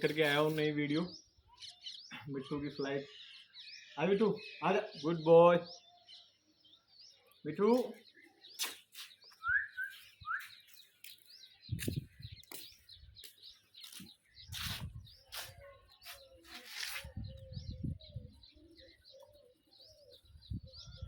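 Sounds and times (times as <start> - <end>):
birds chirping and twittering: 0.0 - 21.0
harsh bird calls: 0.0 - 21.0.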